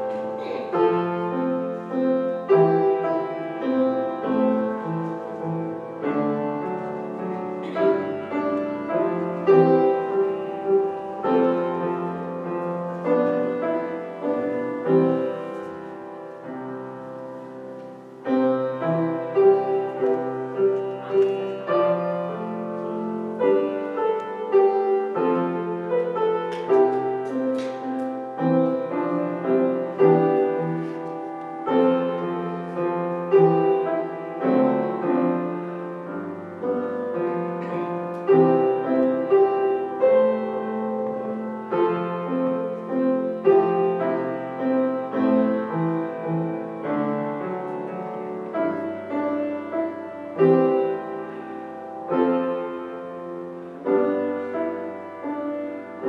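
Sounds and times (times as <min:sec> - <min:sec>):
slow solo piano chords: 0:00.0 - 0:56.0.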